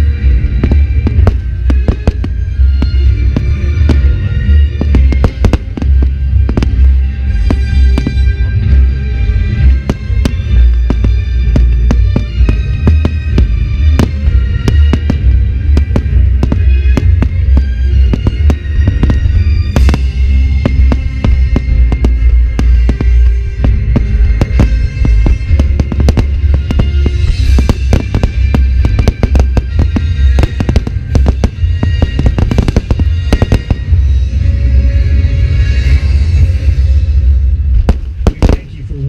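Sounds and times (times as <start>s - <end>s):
fireworks booms: 0.0s - 8.3s, 9.6s - 34.2s, 37.8s - 38.9s
fireworks cracks: 0.0s - 8.3s, 9.4s - 34.1s, 37.8s - 39.0s
music with sustained tones: 0.0s - 39.0s.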